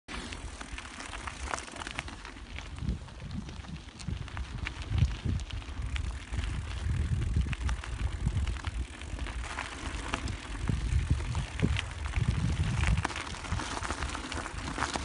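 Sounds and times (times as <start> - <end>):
handcycle rolling on trail: 0.1 - 15.0.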